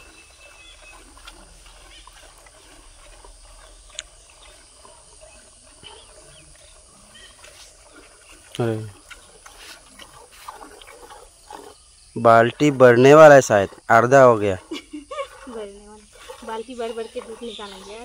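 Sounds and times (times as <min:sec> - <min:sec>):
cow being hand-milked into bucket: 0:00.0 - 0:18.0.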